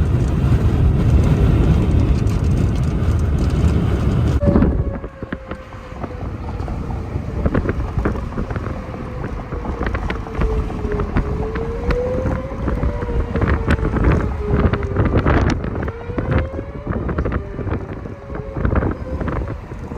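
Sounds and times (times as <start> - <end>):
tornado warning siren wailing: 0.0 - 19.9
wind buffeting microphone: 0.0 - 19.9.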